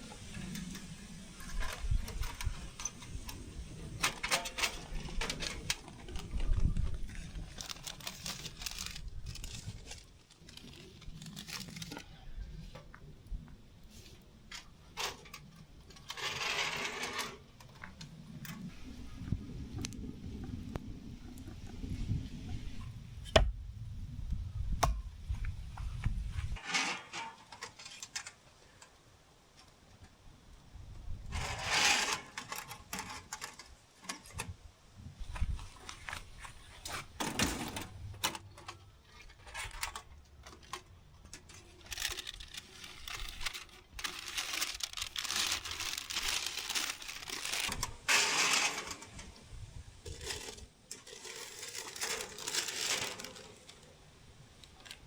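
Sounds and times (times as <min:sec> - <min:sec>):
rustling and clattering: 0:00.0 - 0:23.5, 0:25.3 - 0:29.0, 0:31.3 - 0:34.6, 0:35.2 - 0:54.0.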